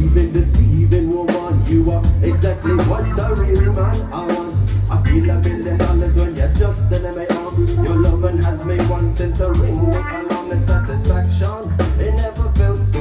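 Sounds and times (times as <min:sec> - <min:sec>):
heavy bass: 0:00.0 - 0:13.0
live band playing: 0:00.0 - 0:13.0
steady drum beat: 0:00.0 - 0:13.0.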